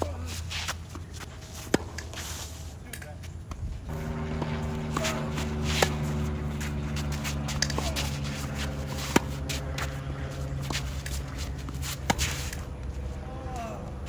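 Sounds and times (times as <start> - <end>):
shoes scuffing on court: 0.0 - 13.3
low mechanical hum: 0.0 - 14.0
racket hitting tennis ball: 0.6 - 2.3, 3.9 - 14.0.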